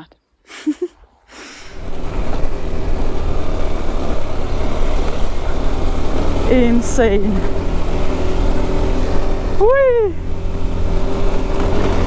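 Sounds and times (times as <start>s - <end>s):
motorcycle engine droning: 1.7s - 12.0s.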